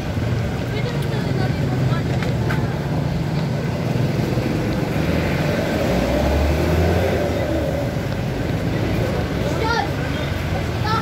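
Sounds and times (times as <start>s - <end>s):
vehicle passing by: 0.0s - 10.8s
road noise: 0.0s - 11.0s.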